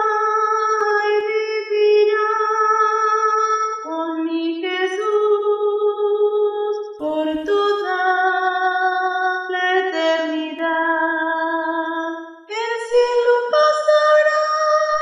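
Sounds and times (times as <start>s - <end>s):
soprano singing a hymn: 0.0s - 15.0s.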